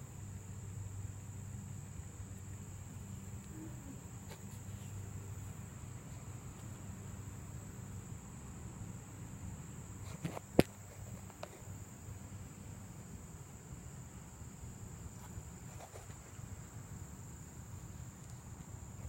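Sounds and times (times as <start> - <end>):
crickets chirping: 0.0 - 19.0
low steady hum: 0.0 - 19.0.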